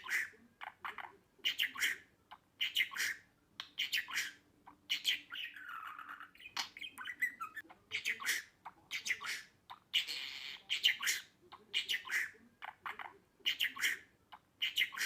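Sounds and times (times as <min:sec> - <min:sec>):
budgerigar chattering: 0:00.0 - 0:15.0.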